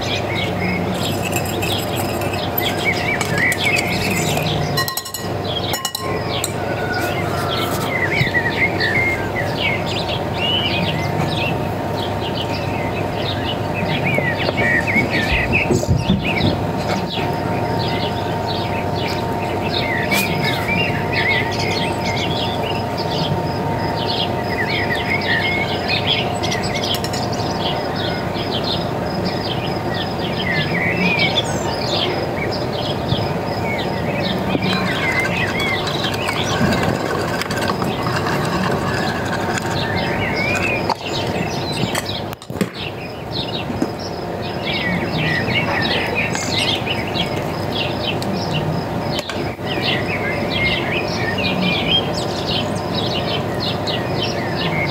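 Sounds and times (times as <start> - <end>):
birds chirping: 0.0 - 54.9
steady hum: 0.0 - 54.9.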